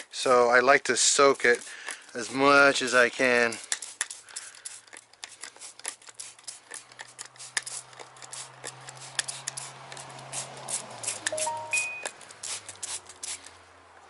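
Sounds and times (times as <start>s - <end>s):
spray bottle squirting: 1.4s - 13.6s.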